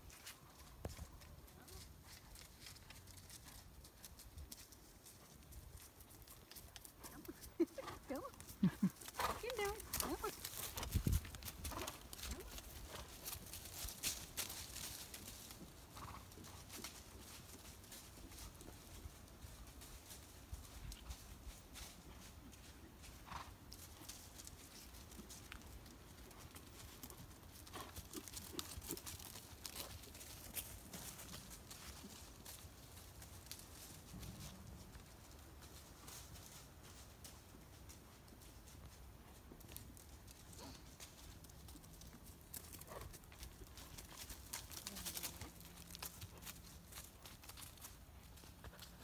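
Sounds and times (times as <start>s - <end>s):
hoofbeats on sandy dirt: 0.0s - 49.0s.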